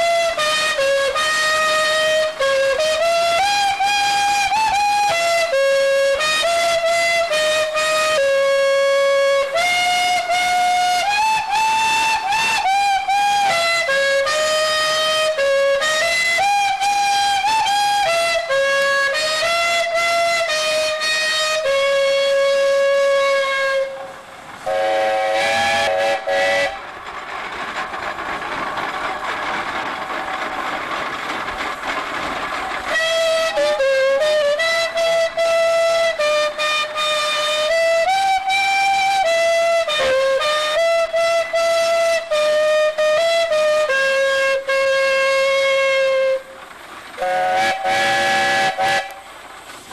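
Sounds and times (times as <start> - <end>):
steam whistles playing a tune: 0.0 - 26.8, 32.9 - 46.6, 47.2 - 49.3
low steam whistle: 0.0 - 26.9, 32.9 - 49.9
steady steam hiss: 0.0 - 49.9.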